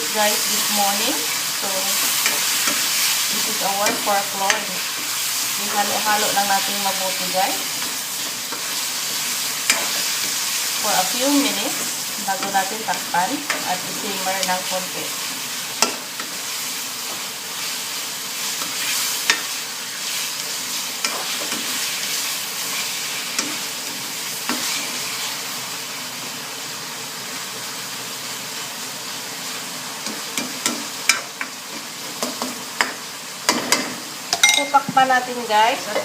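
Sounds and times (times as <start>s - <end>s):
meat sizzling in a wok: 0.0s - 36.0s.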